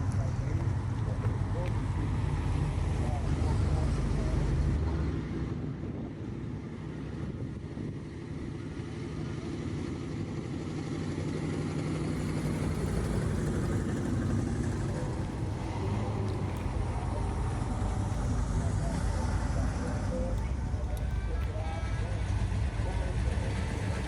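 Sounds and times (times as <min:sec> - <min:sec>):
car engine running: 0:00.0 - 0:05.4, 0:07.0 - 0:24.0.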